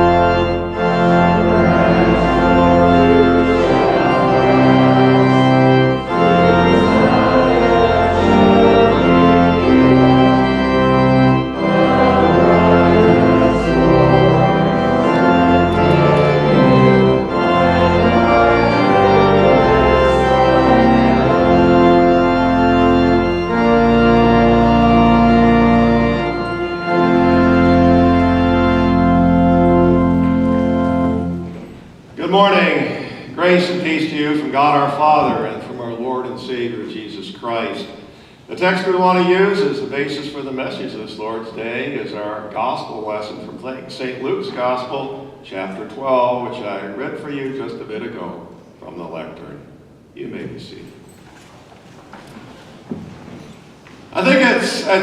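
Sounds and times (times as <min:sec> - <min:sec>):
church organ chords: 0:00.0 - 0:50.9, 0:52.2 - 0:55.0.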